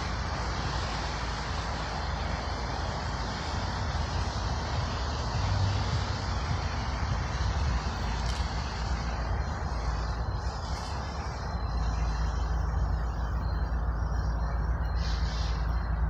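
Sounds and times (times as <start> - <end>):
road traffic passing: 0.0 - 16.0
train diesel rumble: 0.0 - 16.0.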